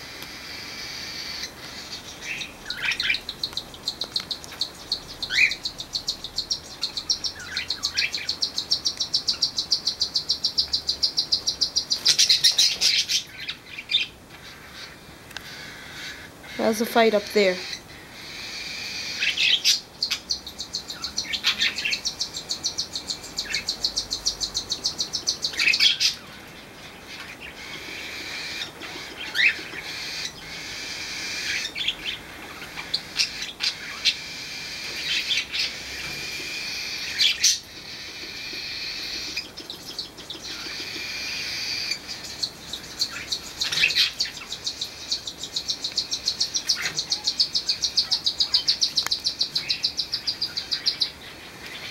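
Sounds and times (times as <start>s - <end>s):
parakeets chirping and chattering: 0.0s - 51.9s.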